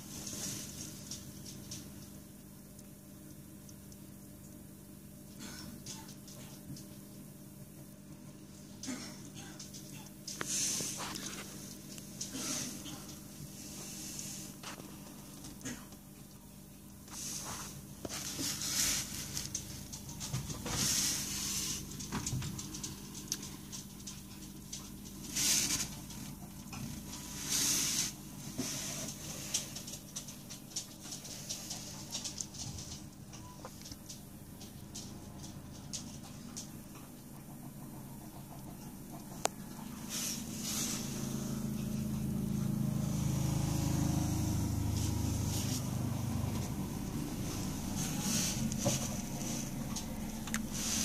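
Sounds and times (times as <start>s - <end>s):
low mechanical hum: 0.0s - 51.0s.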